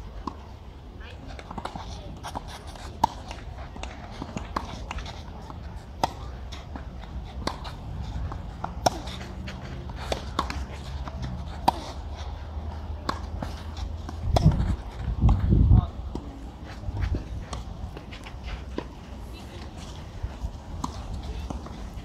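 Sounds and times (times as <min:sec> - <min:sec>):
racket hitting tennis ball: 0:01.4 - 0:22.0.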